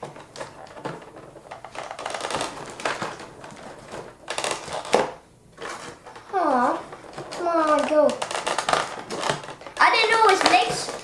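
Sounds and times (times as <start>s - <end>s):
plastic packaging clicks and rustles: 0.0s - 11.0s.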